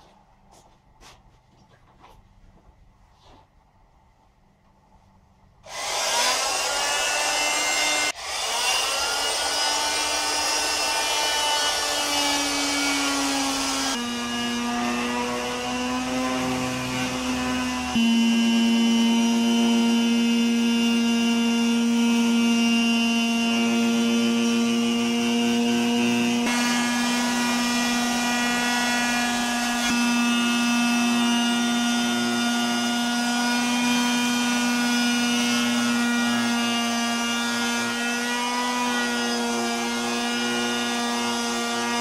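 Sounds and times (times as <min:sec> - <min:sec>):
oscillating saw buzzing through plastic: 0:05.7 - 0:42.0.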